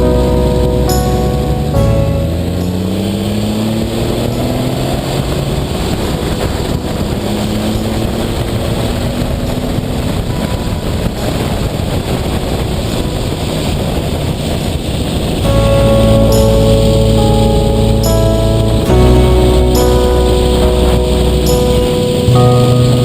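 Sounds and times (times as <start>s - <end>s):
car engine pulling hard: 0.0s - 23.0s
wind rush on microphone: 0.0s - 23.0s.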